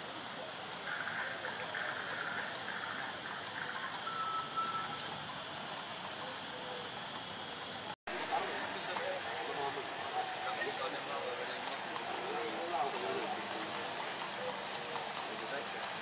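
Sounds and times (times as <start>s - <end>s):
faint distant voices: 0.0s - 16.0s
fountain water jets splashing: 0.0s - 16.0s.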